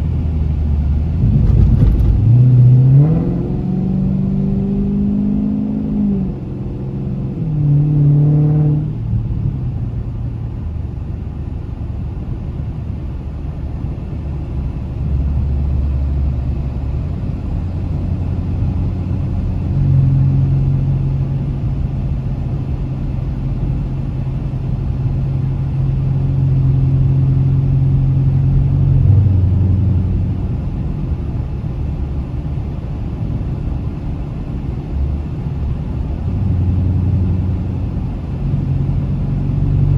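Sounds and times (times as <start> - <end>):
car engine revving and droning: 0.0 - 39.9
road noise: 0.0 - 39.9.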